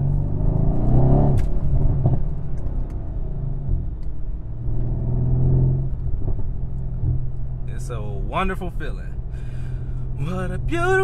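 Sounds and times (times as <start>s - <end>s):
car engine droning in cabin: 0.0s - 11.0s
road noise: 0.0s - 11.0s.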